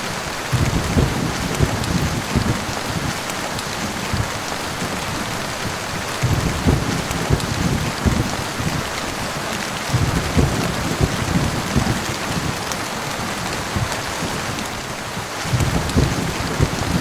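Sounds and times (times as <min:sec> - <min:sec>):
heavy rain falling: 0:00.0 - 0:17.0
low thunder rumbles: 0:00.4 - 0:17.0.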